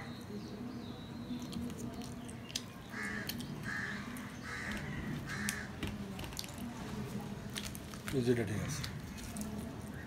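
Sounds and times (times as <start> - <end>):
man chewing food: 1.3 - 10.0.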